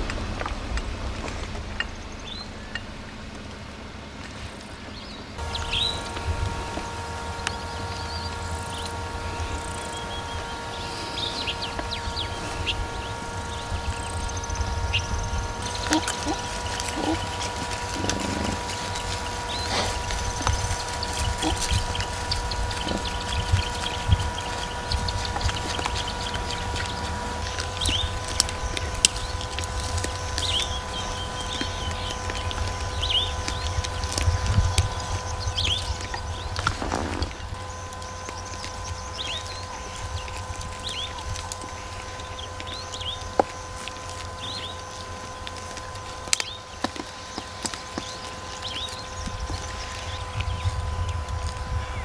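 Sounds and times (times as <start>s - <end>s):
low rumble: 0.0s - 46.7s
birds chirping: 0.0s - 52.0s.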